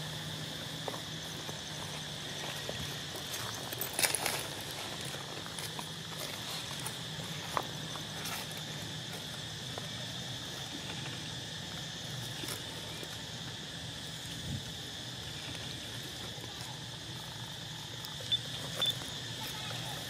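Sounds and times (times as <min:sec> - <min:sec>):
insect chorus buzzing: 0:00.0 - 0:20.0.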